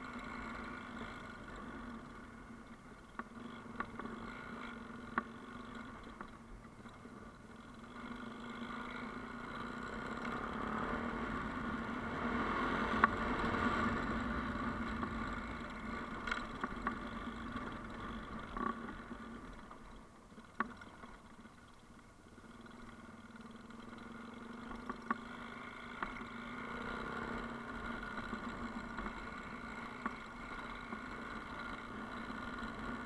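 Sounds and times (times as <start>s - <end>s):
vehicle engine running at low revs: 0.0s - 33.0s.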